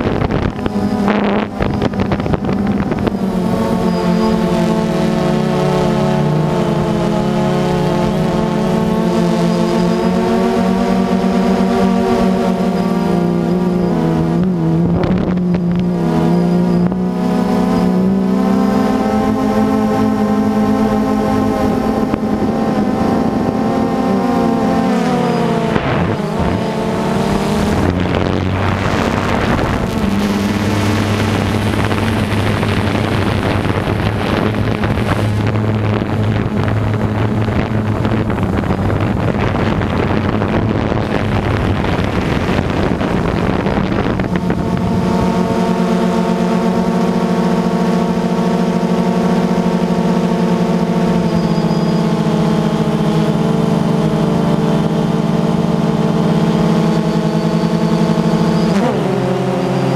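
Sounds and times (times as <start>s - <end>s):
harvest machinery engine running: 0.0s - 59.9s
smooth hum with higher tones: 0.0s - 59.9s.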